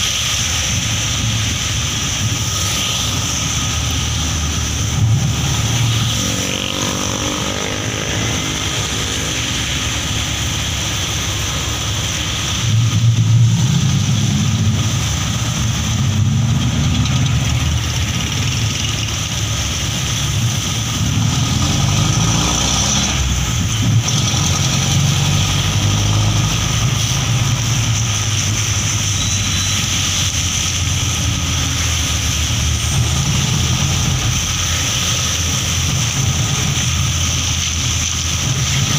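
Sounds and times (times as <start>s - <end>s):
tyre hiss on wet road: 0.0s - 38.9s
vehicle engine revving: 2.3s - 38.9s.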